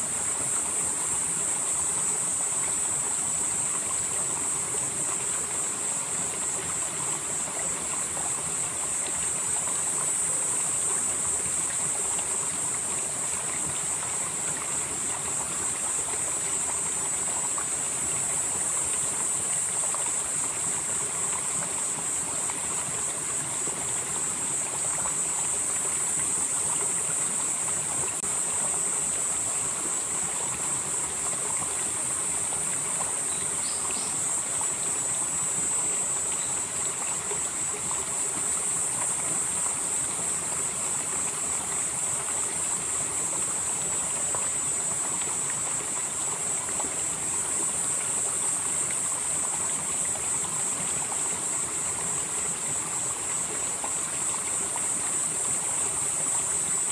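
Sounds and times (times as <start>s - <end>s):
stream flowing over rocks: 0.0s - 56.9s.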